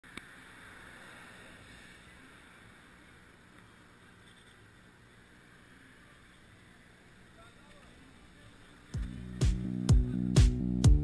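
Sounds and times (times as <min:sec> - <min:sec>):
faint background hiss: 0:00.0 - 0:10.4.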